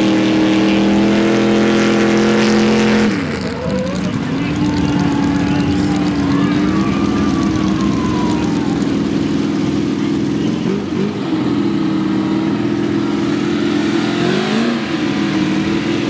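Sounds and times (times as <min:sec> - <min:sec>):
truck engines revving hard: 0:00.0 - 0:16.0.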